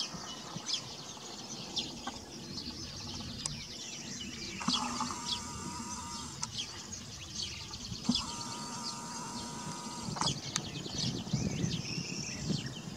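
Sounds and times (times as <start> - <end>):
low steady bird calls: 0.0 - 12.9
songbirds chirping: 0.0 - 12.9.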